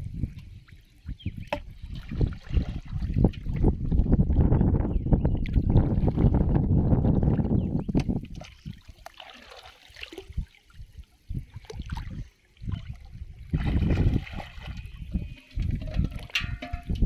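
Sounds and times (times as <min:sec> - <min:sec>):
water sloshing around person wading: 0:00.1 - 0:04.3, 0:05.4 - 0:17.0.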